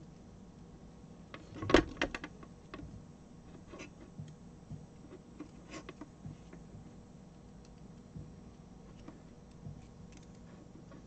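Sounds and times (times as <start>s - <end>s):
fingers untwisting cable wires: 1.2s - 11.0s.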